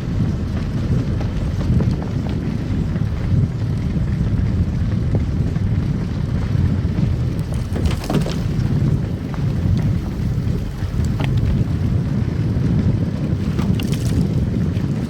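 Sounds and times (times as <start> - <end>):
car tyres and engine rumble: 0.0 - 15.0.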